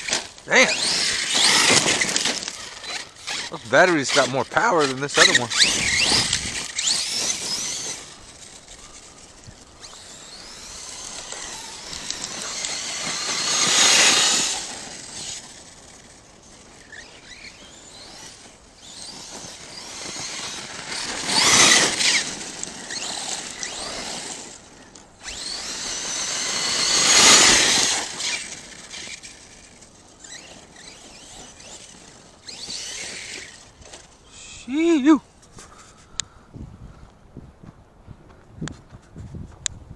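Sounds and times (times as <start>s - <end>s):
electric motor whining: 0.0s - 35.2s.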